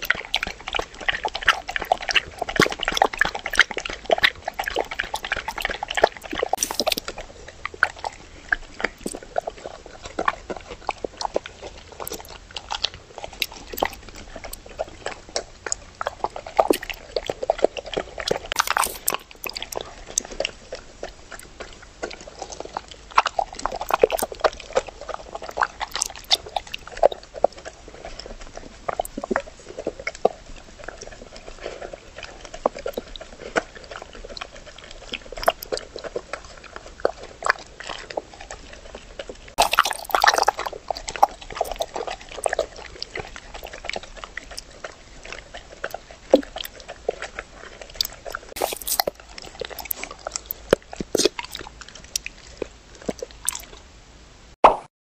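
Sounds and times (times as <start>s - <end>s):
teeth clicking on metal bowl: 0.0s - 53.8s
dog chewing and licking: 0.0s - 53.9s.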